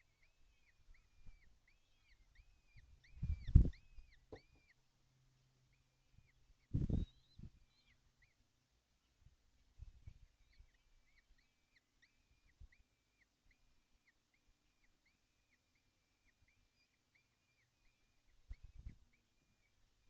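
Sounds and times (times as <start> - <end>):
young kestrels calling: 0.0 - 4.9, 5.6 - 9.1, 10.1 - 20.0.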